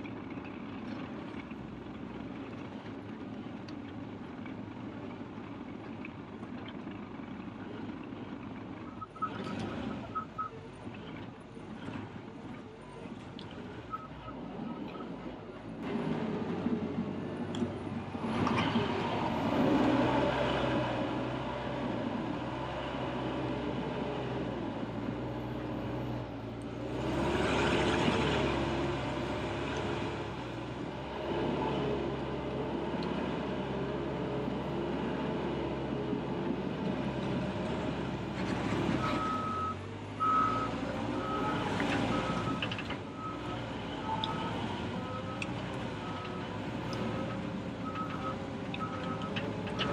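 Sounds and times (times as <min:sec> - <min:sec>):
diesel engine running under load: 0:00.0 - 0:49.9.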